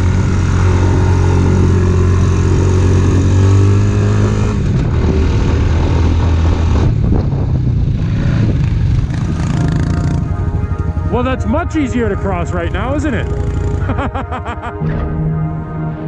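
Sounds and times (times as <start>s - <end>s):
vehicle engine running: 0.0s - 14.7s.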